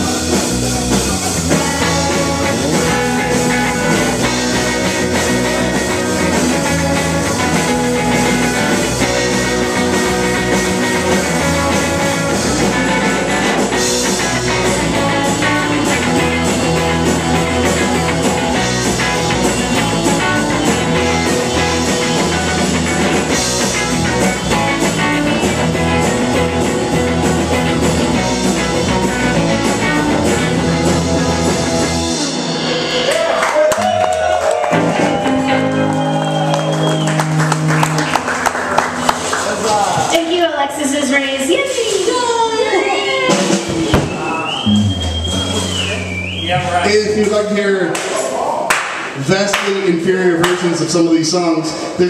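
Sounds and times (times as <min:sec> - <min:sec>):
rock band playing live: 0:00.0 - 0:52.0.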